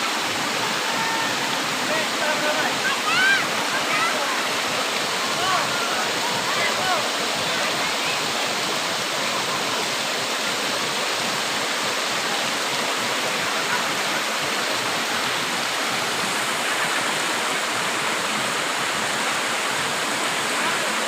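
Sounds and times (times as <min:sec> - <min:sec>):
waterfall cascading over rocks: 0:00.0 - 0:21.0.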